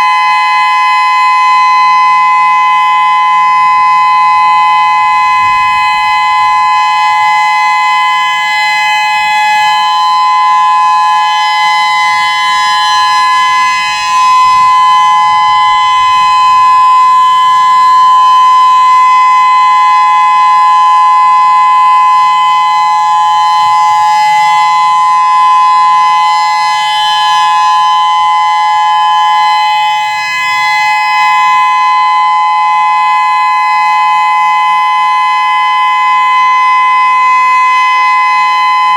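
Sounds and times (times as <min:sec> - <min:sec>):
outdoor warning siren tone: 0:00.0 - 0:38.9.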